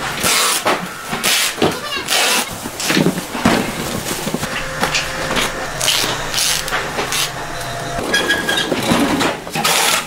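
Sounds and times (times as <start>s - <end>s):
packing machinery humming: 0.0s - 9.9s.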